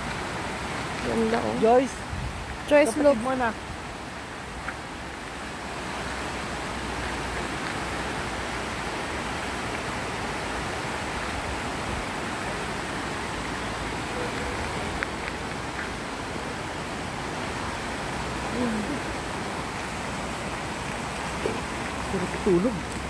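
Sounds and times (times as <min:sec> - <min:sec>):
creek rushing over rocks: 0:00.0 - 0:23.0.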